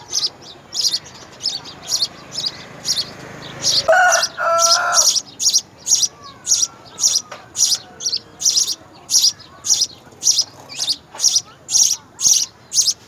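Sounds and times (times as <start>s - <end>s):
lower pitched bird call: 0.0s - 13.0s
small bird chirping: 0.0s - 13.0s.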